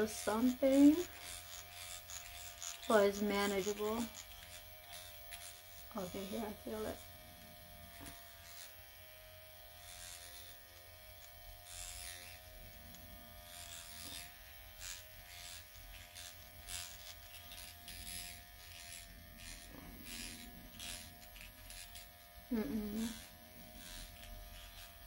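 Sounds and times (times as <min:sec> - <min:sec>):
microneedling pen buzzing: 0:00.0 - 0:25.0.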